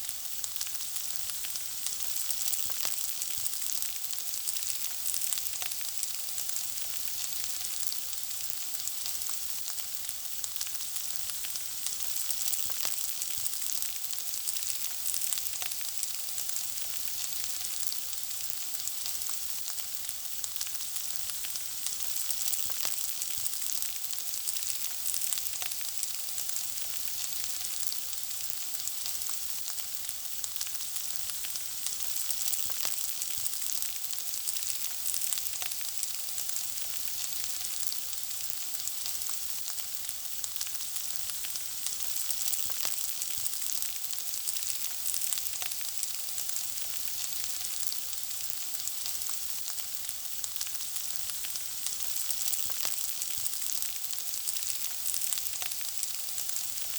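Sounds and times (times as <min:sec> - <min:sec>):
food frying in hot oil: 0:00.0 - 0:56.9.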